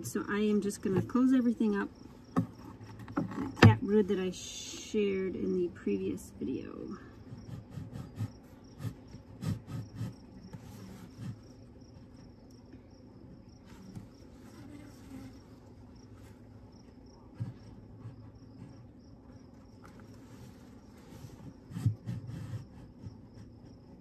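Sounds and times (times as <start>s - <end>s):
honeybees humming: 0.0s - 24.0s.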